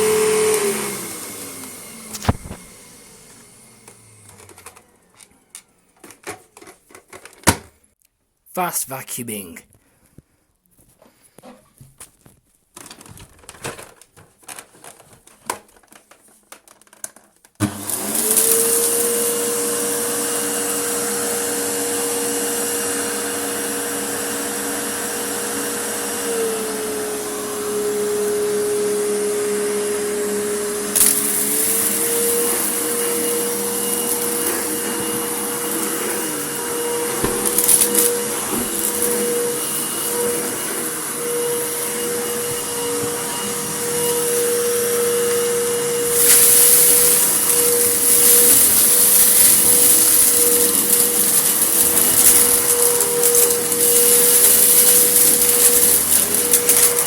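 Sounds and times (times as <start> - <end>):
vacuum cleaner running: 0.0 - 6.4, 17.6 - 57.0.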